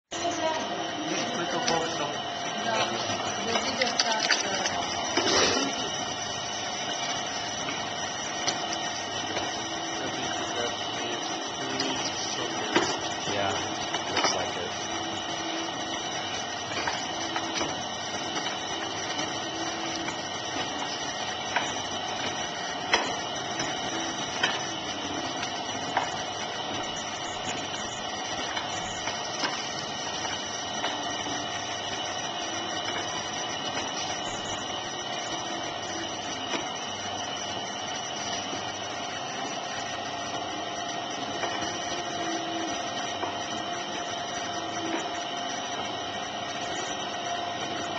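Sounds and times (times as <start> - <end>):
potter's wheel humming: 0.1 - 47.9.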